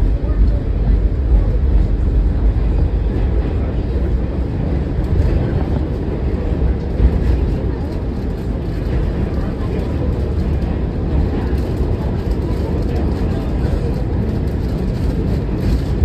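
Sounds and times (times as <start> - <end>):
subway car rumbling on track: 0.0 - 16.0.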